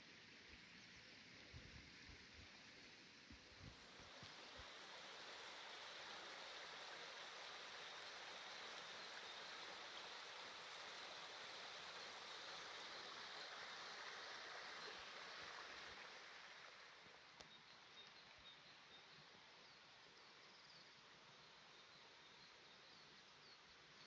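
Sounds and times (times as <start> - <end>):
stream trickling over stones: 0.0 - 24.0.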